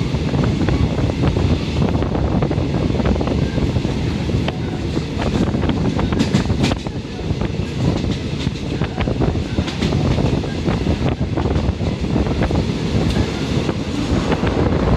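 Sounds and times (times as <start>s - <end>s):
rail joint clicks and knocks: 0.0s - 14.9s
train wheels rumbling on track: 0.0s - 14.9s.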